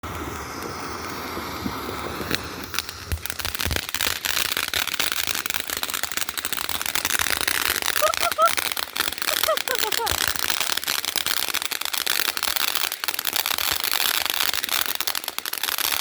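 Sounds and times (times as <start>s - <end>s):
fireworks crackling: 0.0s - 16.0s
fireworks hissing fizz: 0.0s - 16.0s
fireworks popping: 0.0s - 16.0s.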